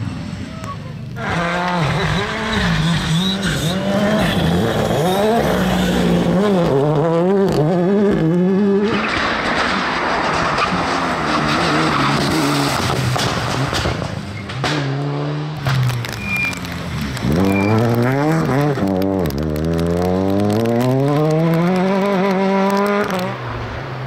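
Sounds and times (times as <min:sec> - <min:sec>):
gravel and tyre rush: 0:00.0 - 0:24.0
rally car engines revving: 0:00.0 - 0:24.0.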